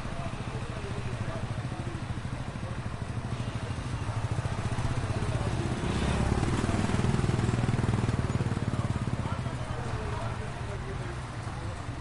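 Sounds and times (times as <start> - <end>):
street traffic: 0.0 - 12.0
motorcycle engine running: 0.6 - 10.3.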